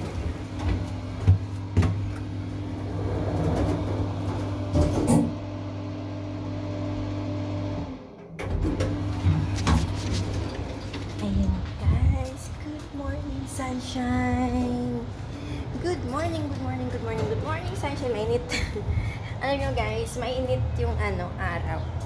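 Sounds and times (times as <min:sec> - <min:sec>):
elevator hum: 0:00.0 - 0:21.0.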